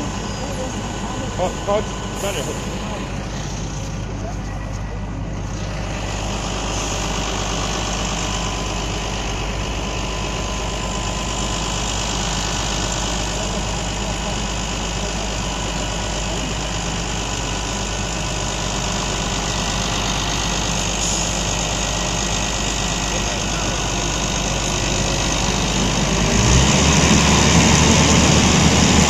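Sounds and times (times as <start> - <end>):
heavy diesel engines running: 0.0 - 29.0.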